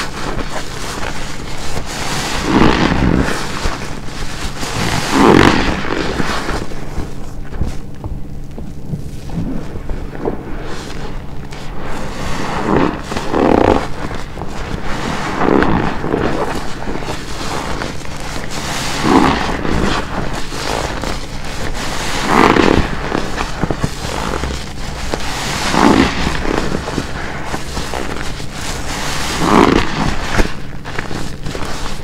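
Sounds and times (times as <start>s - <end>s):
wet sponge squelching: 0.0s - 32.0s.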